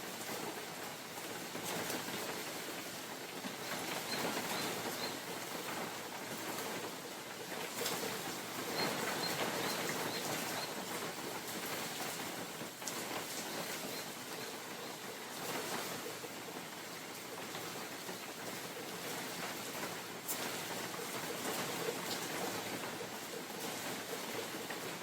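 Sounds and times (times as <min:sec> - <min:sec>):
rain falling in forest: 0:00.0 - 0:25.0
wind through trees: 0:00.0 - 0:25.0.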